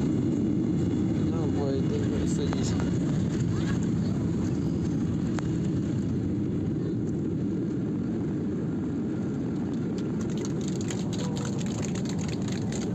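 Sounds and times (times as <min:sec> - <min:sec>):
airliner engines rumbling: 0:00.0 - 0:12.9.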